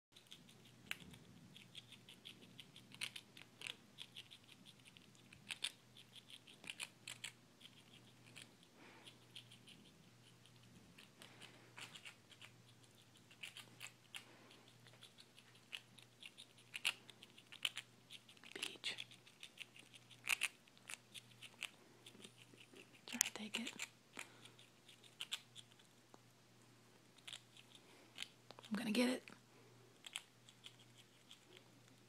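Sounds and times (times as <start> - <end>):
squirrel crunching a cookie: 0.1 - 32.0.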